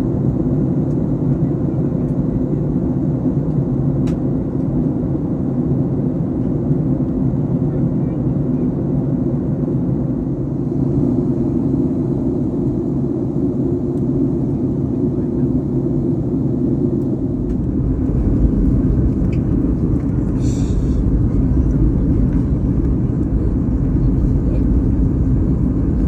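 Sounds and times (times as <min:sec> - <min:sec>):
jet engines rumbling in cabin: 0:00.0 - 0:26.0.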